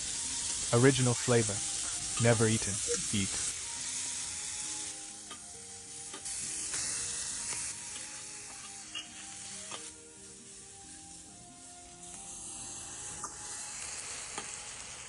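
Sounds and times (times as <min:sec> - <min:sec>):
food sizzling: 0:00.0 - 0:15.0
soft background music: 0:00.0 - 0:15.0.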